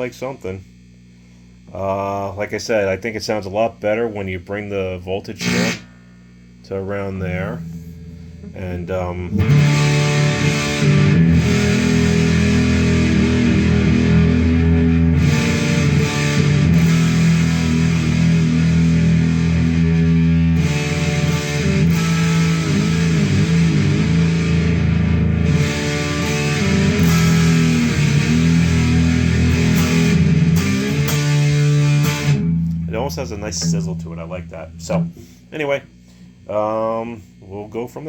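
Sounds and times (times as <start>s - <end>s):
distorted electric guitar chords: 4.4s - 36.1s.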